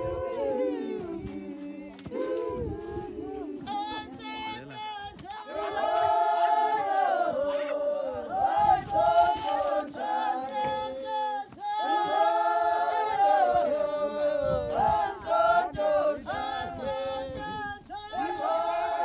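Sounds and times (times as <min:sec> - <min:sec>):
choir singing unaccompanied: 0:00.0 - 0:04.7, 0:05.3 - 0:19.0.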